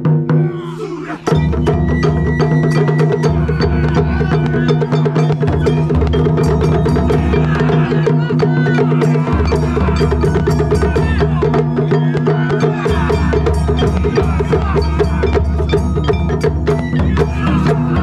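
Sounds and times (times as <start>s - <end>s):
taiko drums playing fast rhythm: 0.0s - 18.0s.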